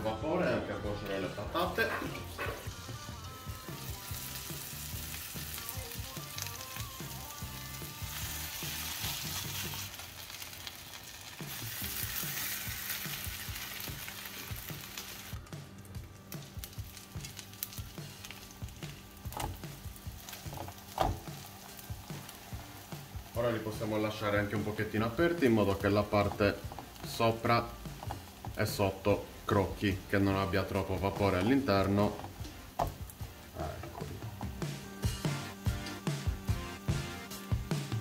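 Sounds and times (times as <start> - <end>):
food sizzling in a pan: 1.5 - 38.0.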